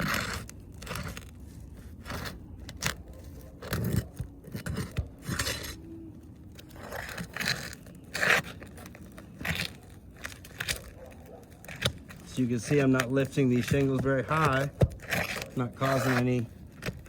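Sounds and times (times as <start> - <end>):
tool scraping under roof shingles: 0.0 - 17.0.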